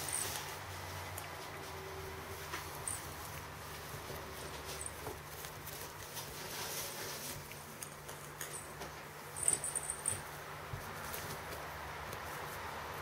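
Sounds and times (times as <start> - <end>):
ferret scratching and rustling: 0.0 - 13.0.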